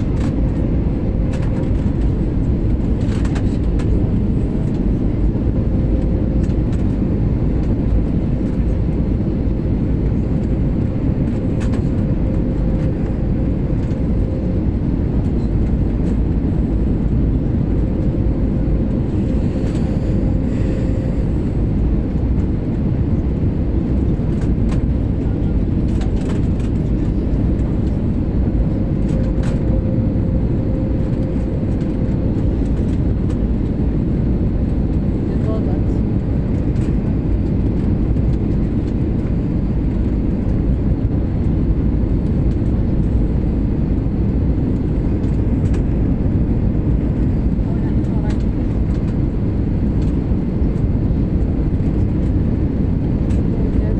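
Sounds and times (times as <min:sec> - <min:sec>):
airliner engine rumble: 0:00.0 - 0:53.9.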